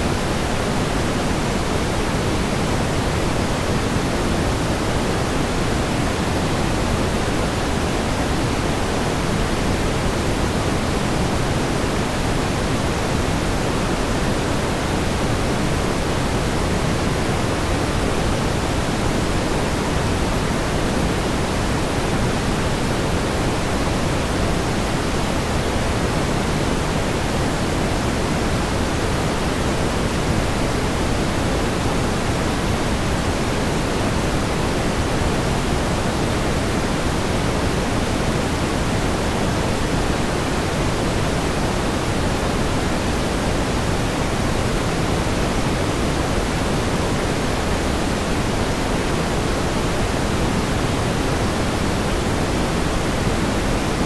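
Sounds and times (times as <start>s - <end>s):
steady pink noise hiss: 0.0s - 54.0s.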